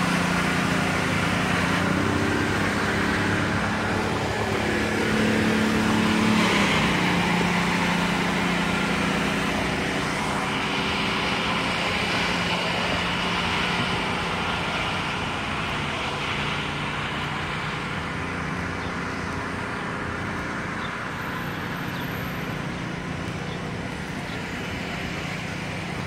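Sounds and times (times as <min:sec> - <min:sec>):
low engine hum: 0:00.0 - 0:26.0
road traffic hiss: 0:00.0 - 0:26.0.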